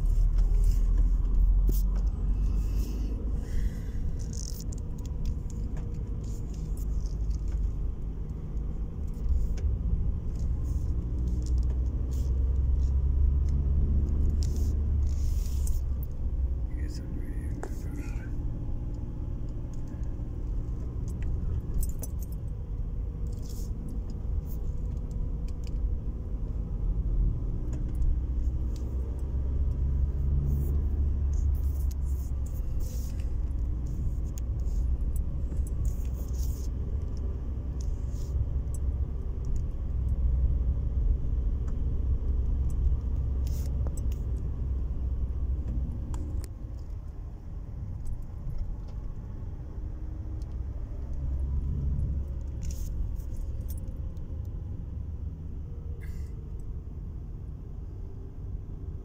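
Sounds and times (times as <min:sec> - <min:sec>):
engine and road rumble: 0:00.0 - 0:59.0
small rattles inside car: 0:00.0 - 0:59.0.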